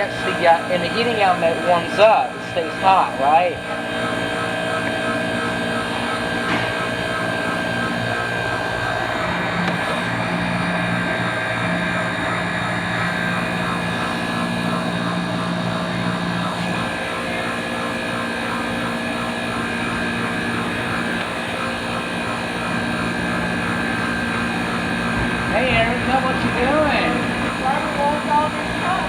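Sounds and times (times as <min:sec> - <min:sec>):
ice machine mechanical drone: 0:00.0 - 0:29.0.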